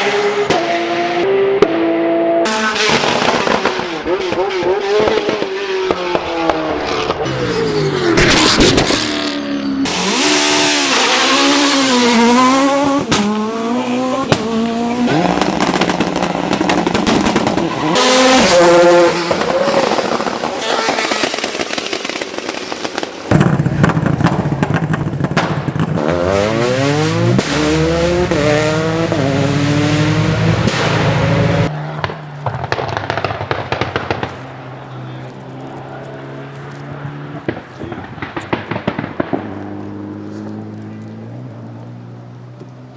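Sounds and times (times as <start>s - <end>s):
race car engines revving: 0.0s - 42.9s
exhaust pops and backfire: 2.4s - 13.5s, 14.2s - 35.4s, 37.3s - 41.2s.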